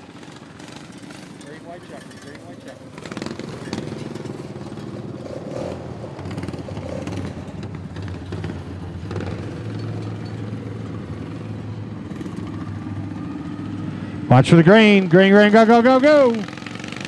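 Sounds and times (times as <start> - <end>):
lawn mower engines running: 0.0 - 17.0.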